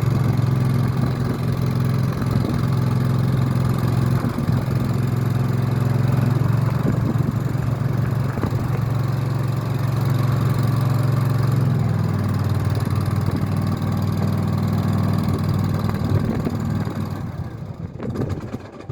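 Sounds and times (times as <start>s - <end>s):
loader engine running: 0.0s - 18.9s.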